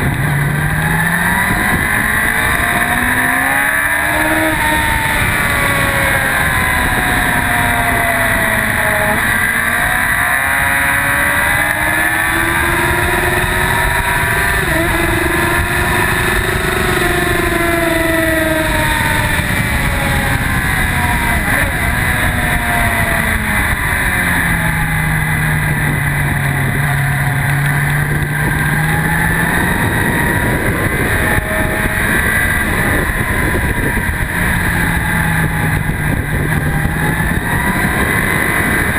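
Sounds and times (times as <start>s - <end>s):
motorcycle engine at speed: 0.0s - 38.9s
wind rush on microphone: 0.0s - 38.9s.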